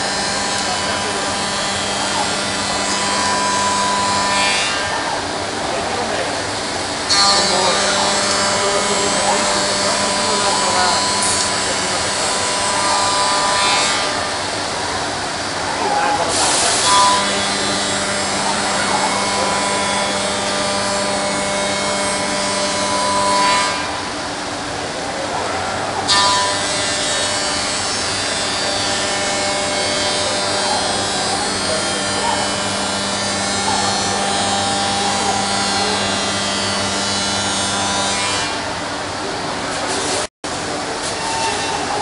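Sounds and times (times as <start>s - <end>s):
milling machine whine: 0.0s - 42.0s
router cutting wood: 0.0s - 42.0s.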